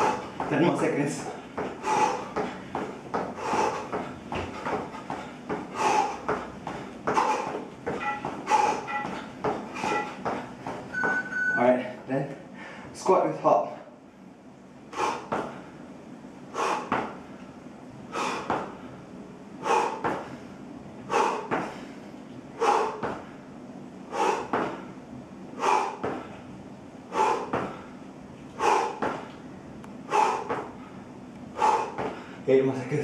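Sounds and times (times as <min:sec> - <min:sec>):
man breathing hard: 0:00.0 - 0:00.5, 0:01.2 - 0:10.8, 0:11.9 - 0:13.0, 0:14.8 - 0:32.5.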